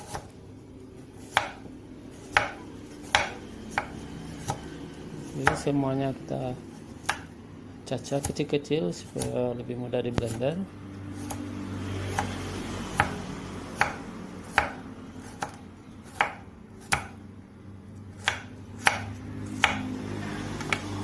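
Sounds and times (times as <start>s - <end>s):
knife chopping: 0.0s - 0.4s, 1.0s - 5.8s, 6.8s - 17.2s, 18.1s - 21.0s.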